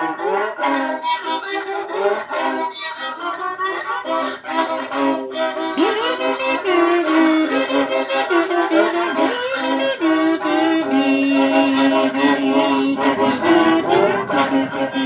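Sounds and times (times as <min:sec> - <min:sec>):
fiddle tune with quick bow strokes: 0:00.0 - 0:15.0.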